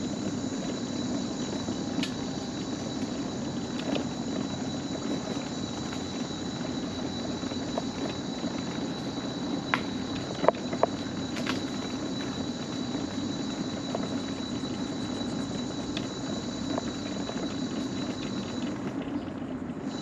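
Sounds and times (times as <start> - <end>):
mobility scooter motor hum: 0.0 - 20.0.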